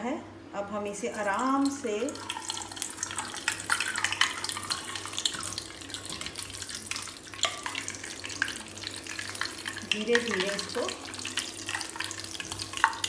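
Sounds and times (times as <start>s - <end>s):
bread deep-frying in hot fat: 1.1s - 13.0s.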